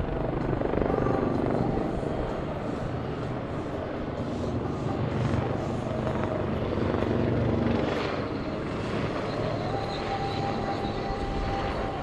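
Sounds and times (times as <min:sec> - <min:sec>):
helicopter rotor noise: 0:00.0 - 0:12.0
turbine whine: 0:00.0 - 0:12.0.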